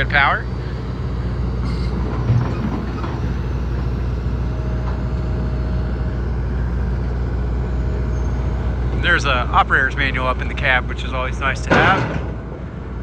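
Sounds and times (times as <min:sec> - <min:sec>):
faint thin whine: 0:00.0 - 0:11.9
excavator diesel engine humming: 0:00.0 - 0:13.0.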